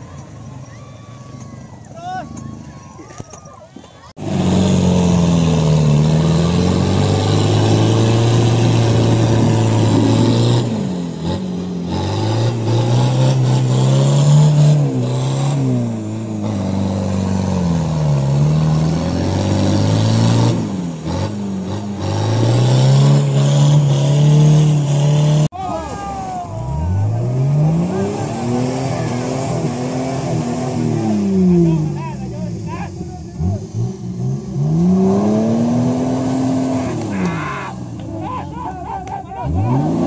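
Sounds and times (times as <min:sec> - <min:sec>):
off-road vehicle engine revving: 0:00.0 - 0:03.2, 0:04.1 - 0:40.0
tyres churning through mud: 0:00.0 - 0:40.0.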